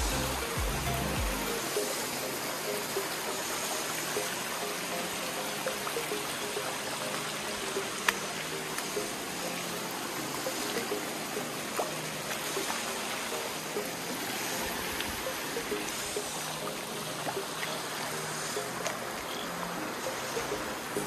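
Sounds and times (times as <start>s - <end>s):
soft background music: 0.0s - 21.0s
stream water rushing over rock: 0.0s - 21.0s.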